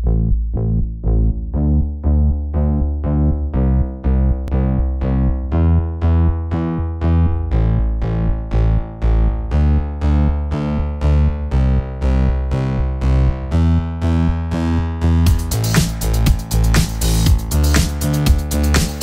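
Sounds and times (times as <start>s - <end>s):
deep bass line: 0.0s - 19.0s
synthesizer notes on a beat: 0.0s - 19.0s.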